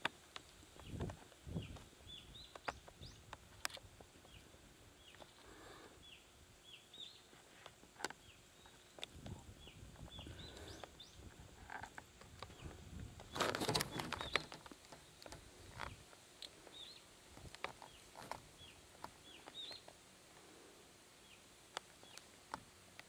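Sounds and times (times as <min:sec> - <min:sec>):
small bird chirping: 0:00.8 - 0:20.0, 0:21.2 - 0:22.3.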